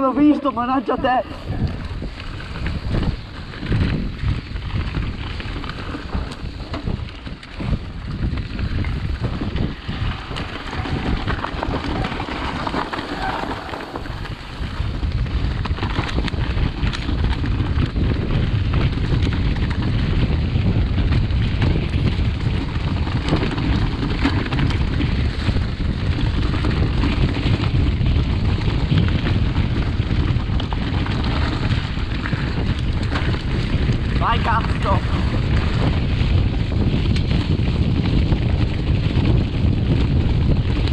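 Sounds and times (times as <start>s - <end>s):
bike tyres on rough dirt: 0.0s - 40.9s
wind on microphone: 0.0s - 40.9s
bike rattles and knocks: 1.6s - 40.9s.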